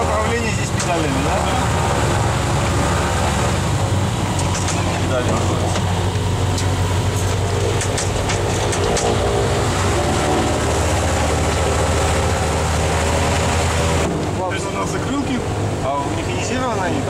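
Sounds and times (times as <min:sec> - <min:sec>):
propeller engines droning: 0:00.0 - 0:17.0.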